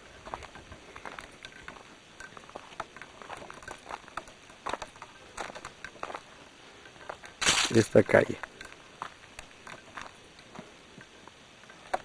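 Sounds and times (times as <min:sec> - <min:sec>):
footsteps on stony dirt road: 0:00.0 - 0:12.0.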